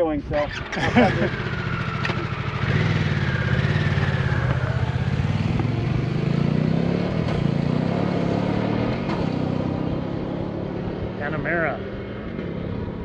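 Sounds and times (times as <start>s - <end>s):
motorcycle engine running: 0.4s - 13.0s.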